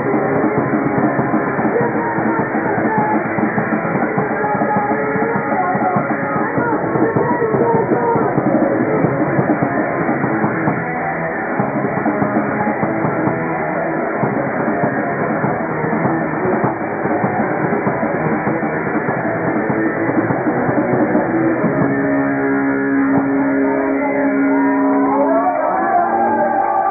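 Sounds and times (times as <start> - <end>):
drum kit: 0.0 - 24.0
electric guitar: 0.0 - 26.9
live rock band playing: 0.0 - 26.9.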